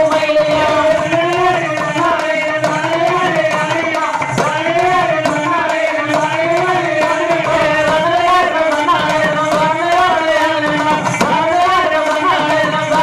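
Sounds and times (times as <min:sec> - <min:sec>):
men singing through microphones: 0:00.0 - 0:13.0
steady percussion beat: 0:00.0 - 0:13.0.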